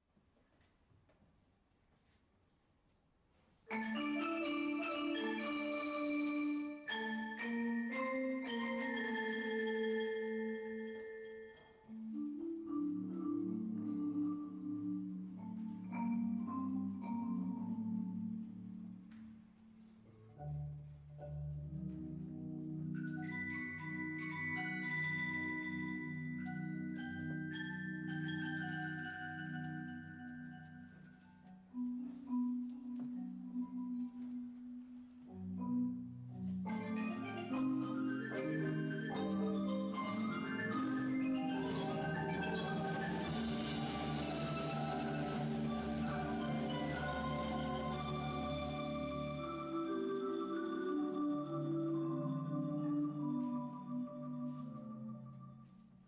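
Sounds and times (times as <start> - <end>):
marimbas and vibraphones playing: 3.7 - 19.1, 21.7 - 55.7.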